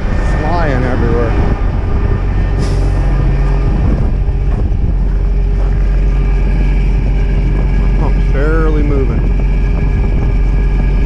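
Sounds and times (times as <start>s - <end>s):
truck engine running: 0.0s - 11.0s
wind buffeting microphone: 0.0s - 11.0s.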